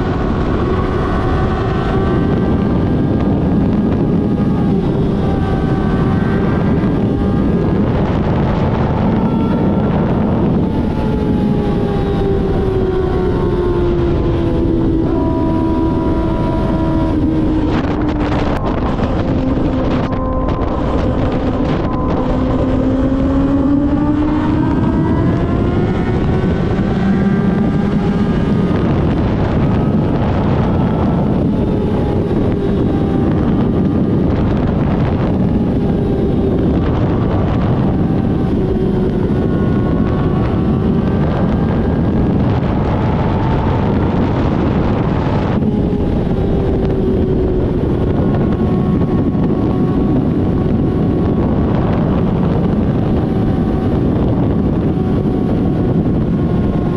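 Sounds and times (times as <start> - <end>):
motorcycle engine running: 0.0 - 56.9
wind rush on microphone: 0.0 - 56.9.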